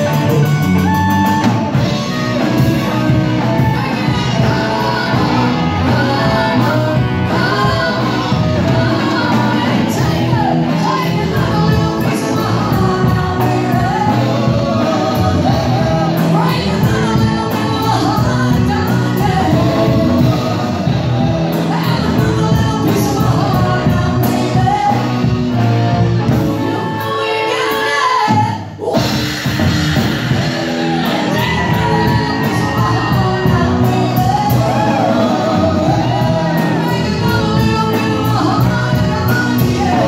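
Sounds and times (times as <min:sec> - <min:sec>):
person singing: 0:00.0 - 0:29.6, 0:30.3 - 0:40.0
live rock band playing: 0:00.0 - 0:40.0.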